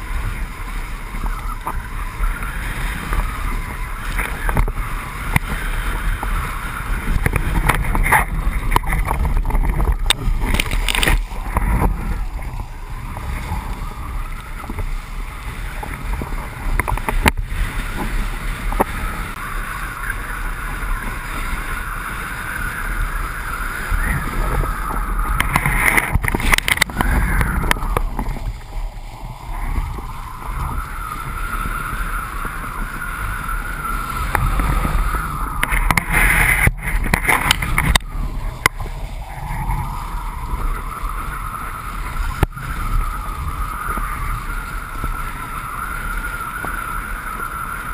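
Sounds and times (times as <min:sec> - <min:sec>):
wind on camera microphone: 0:00.0 - 0:47.9.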